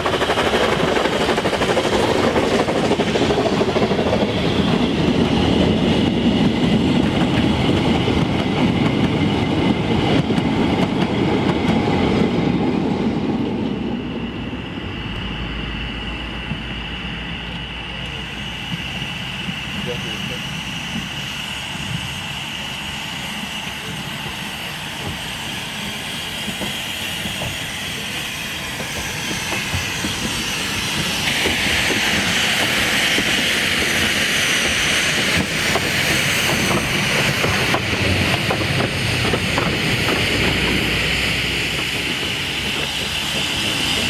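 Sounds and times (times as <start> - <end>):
steam hissing: 0.0 - 12.4, 13.0 - 44.0
steam locomotive moving slowly: 0.0 - 44.0.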